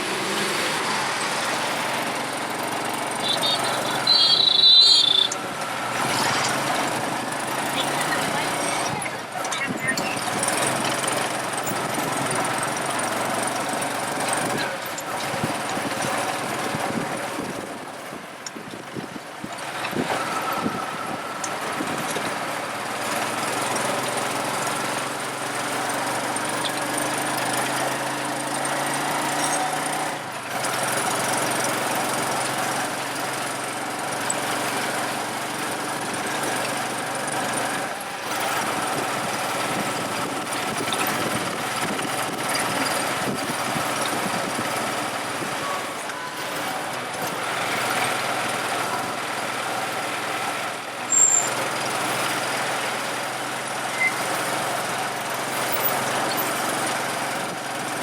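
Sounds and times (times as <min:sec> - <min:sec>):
road and traffic noise: 0:00.0 - 0:58.0
vehicle engine running: 0:00.0 - 0:58.0.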